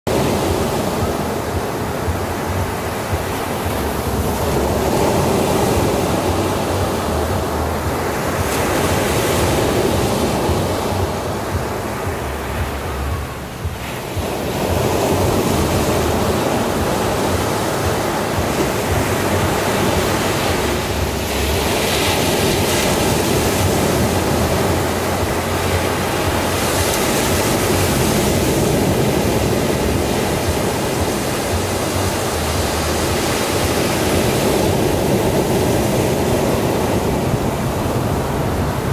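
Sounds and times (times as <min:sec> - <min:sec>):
waves breaking on beach: 0:00.1 - 0:38.9
wind on microphone: 0:00.1 - 0:38.9.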